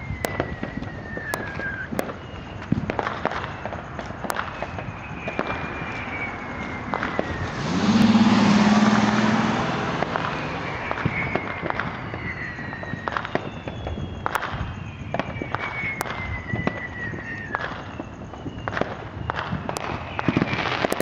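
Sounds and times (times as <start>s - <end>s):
firework pops and crackles: 0.0s - 8.2s, 9.9s - 21.0s
firework whistles sliding down: 0.0s - 21.0s.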